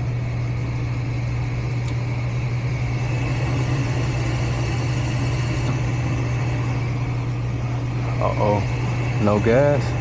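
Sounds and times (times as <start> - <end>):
furnace motor humming: 0.0 - 10.0.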